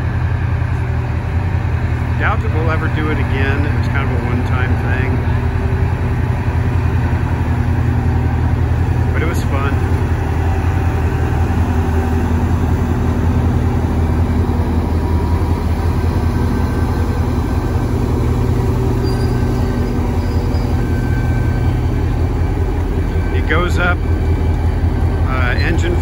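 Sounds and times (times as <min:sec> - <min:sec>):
diesel locomotive engine droning: 0:00.0 - 0:26.0.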